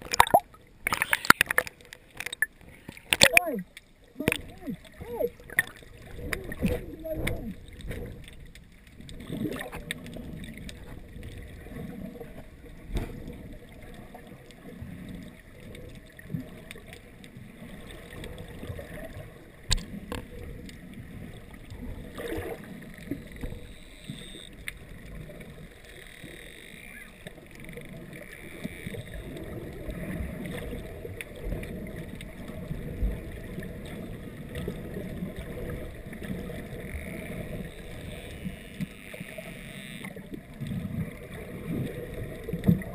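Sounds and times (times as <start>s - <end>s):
underwater churning rumble: 3.4s - 23.7s, 27.3s - 42.9s.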